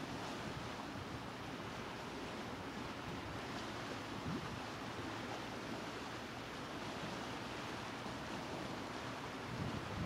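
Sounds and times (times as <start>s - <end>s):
outdoor background rush: 0.0s - 10.0s.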